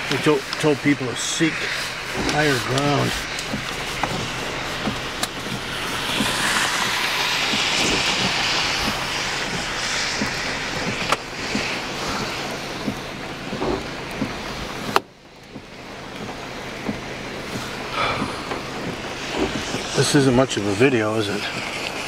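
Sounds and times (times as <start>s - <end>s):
car tyres hissing on wet road: 0.0s - 22.0s.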